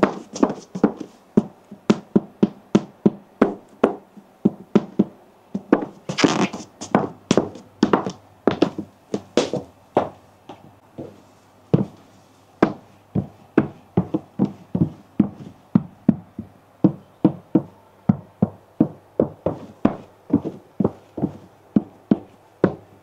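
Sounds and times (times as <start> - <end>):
footsteps on hard surface: 0.0 - 22.8.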